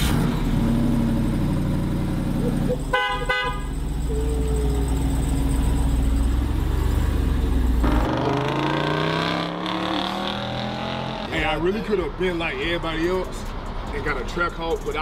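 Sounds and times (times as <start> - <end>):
engine rumbling and revving: 0.0 - 15.0.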